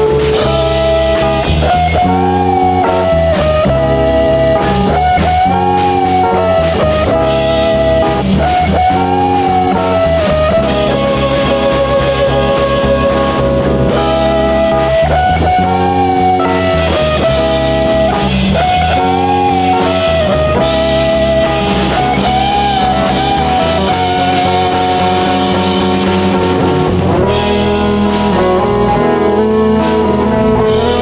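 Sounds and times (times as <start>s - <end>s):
bass: 0.0s - 31.0s
drums: 0.0s - 31.0s
electric lead guitar melody: 0.0s - 31.0s
second guitar: 0.0s - 31.0s.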